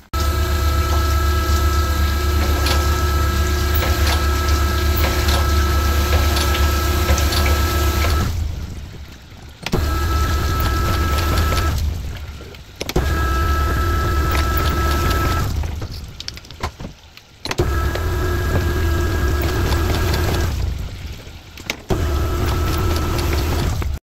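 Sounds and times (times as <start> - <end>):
cylinder hone humming and whining: 0.0 - 8.9, 9.7 - 16.2, 17.5 - 24.0.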